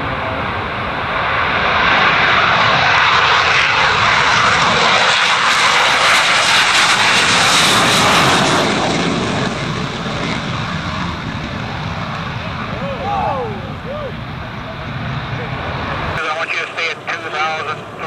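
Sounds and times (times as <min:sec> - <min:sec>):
jet taking off and passing: 0:00.0 - 0:18.0.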